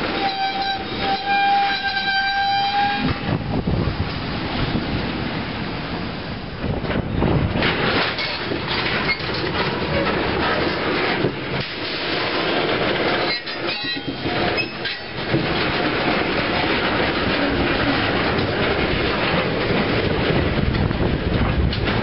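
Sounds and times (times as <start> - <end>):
train wheels rumbling over rails: 0.0 - 22.0.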